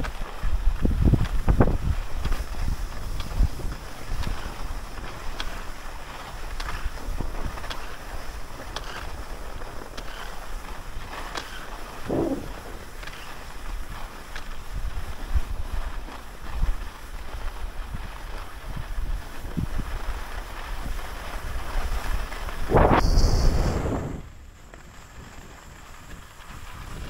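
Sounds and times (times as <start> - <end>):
skis gliding on snow: 0.0 - 27.0
wind buffeting microphone: 0.0 - 27.0.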